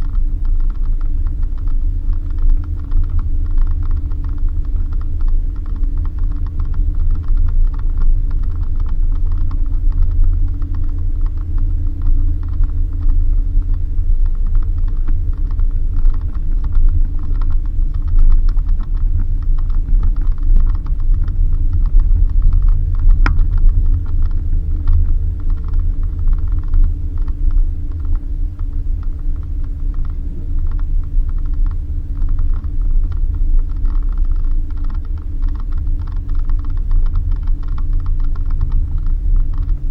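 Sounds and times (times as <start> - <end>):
engine and road rumble: 0.0 - 39.9.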